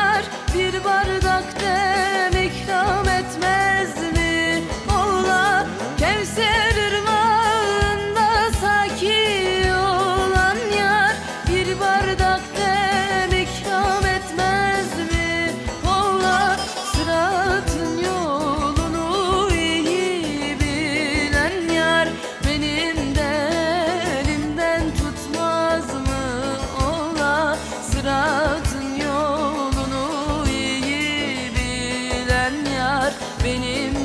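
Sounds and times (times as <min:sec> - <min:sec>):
instrumental accompaniment with beat: 0:00.0 - 0:34.0
woman singing ornamented melody: 0:00.0 - 0:34.0.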